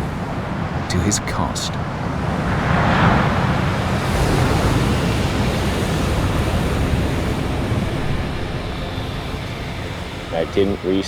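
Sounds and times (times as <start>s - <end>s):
wave breaking: 0.0s - 11.0s.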